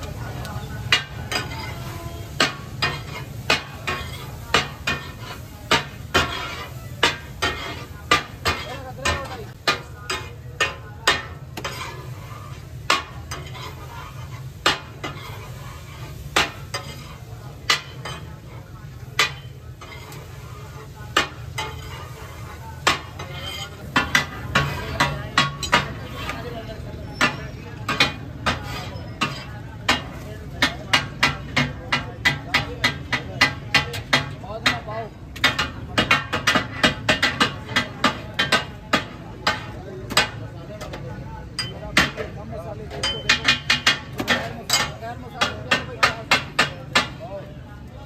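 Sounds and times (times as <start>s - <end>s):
food sizzling: 0.0s - 41.7s
metal spatulas clacking on griddle: 0.0s - 47.3s.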